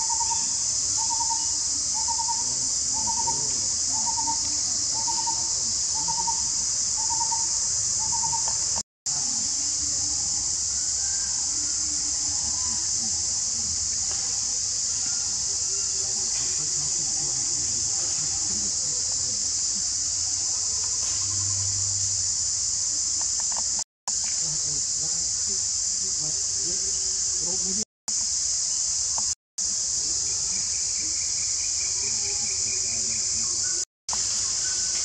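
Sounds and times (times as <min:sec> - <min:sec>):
insect chorus drone: 0:00.0 - 0:35.0.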